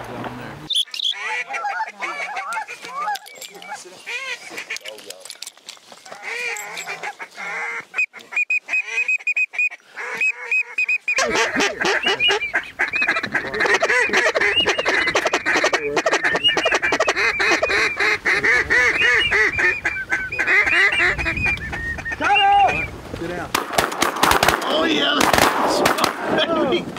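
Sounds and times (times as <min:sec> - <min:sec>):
geese honking: 0:00.6 - 0:05.4, 0:06.0 - 0:22.9.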